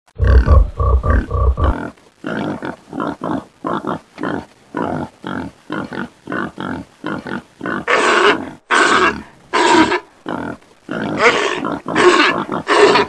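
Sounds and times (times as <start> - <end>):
pig grunting: 0.2 - 13.0.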